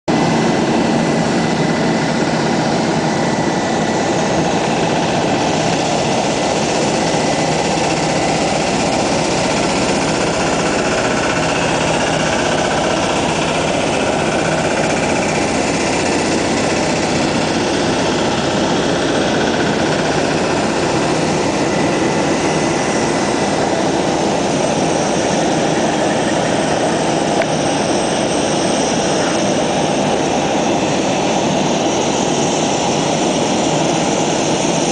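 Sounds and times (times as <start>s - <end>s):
jet engine rushing: 0.1s - 34.9s.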